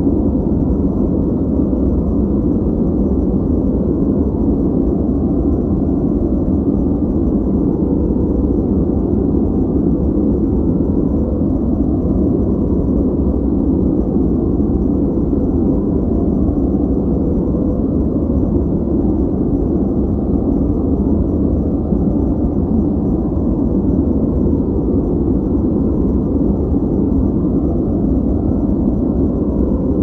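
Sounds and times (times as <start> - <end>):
deep muffled white noise: 0.0 - 30.0.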